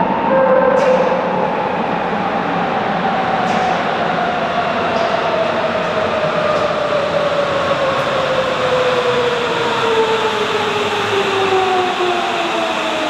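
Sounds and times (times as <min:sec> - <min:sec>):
rumble of moving train: 0:00.0 - 0:13.0
train inverter whine: 0:00.0 - 0:13.0.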